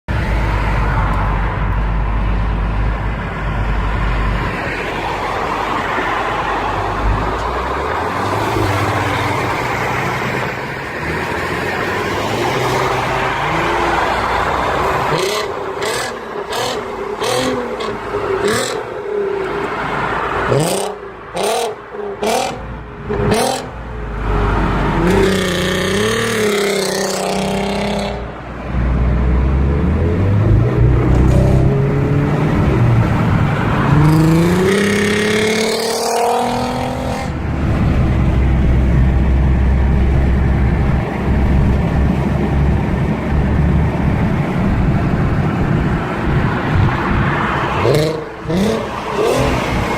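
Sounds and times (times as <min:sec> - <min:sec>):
car engine revving: 0:06.8 - 0:49.9.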